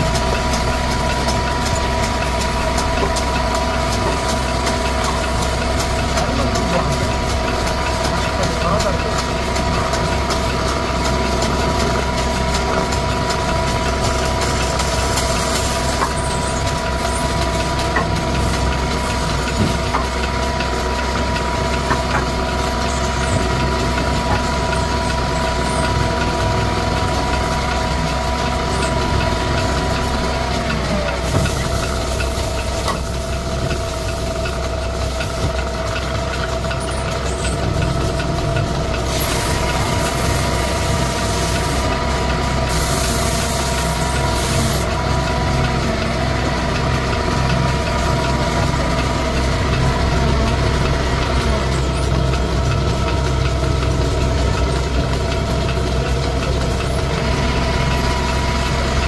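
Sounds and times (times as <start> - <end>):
wood lathe motor hum: 0.0 - 59.0.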